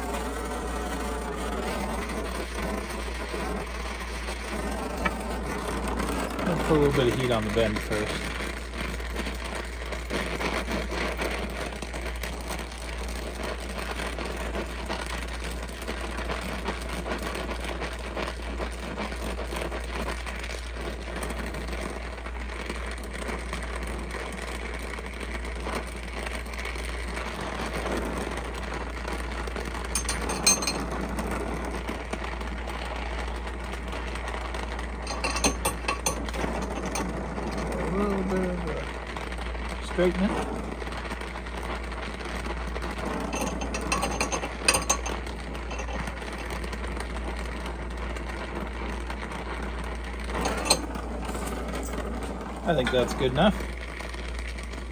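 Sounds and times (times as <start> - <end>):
gas torch flame hissing: 0.0 - 54.9.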